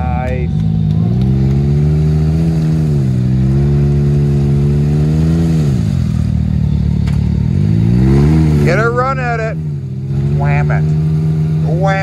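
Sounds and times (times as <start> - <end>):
engine revving in mud: 0.0 - 6.6, 7.4 - 12.0.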